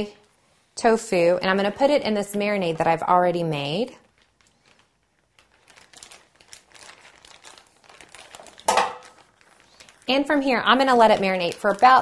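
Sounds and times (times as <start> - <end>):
plastic crinkling: 1.5 - 12.0.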